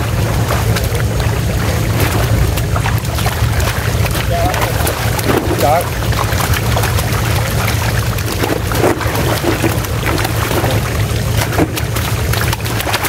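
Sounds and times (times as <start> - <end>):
fish splashing and flapping: 0.0 - 13.0
steady low drone: 0.0 - 13.0.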